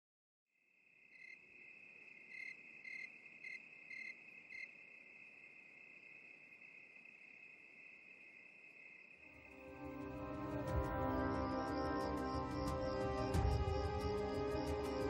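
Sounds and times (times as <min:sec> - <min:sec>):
crickets trilling: 0:00.8 - 0:09.9, 0:11.1 - 0:15.0.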